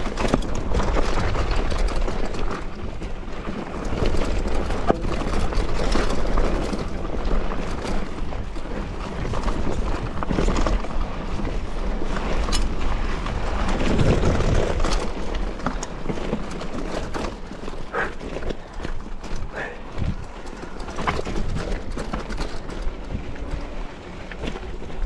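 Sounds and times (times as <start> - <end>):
clicks and rattles: 0.0 - 11.6, 12.2 - 25.0
wind buffeting microphone: 0.0 - 25.0.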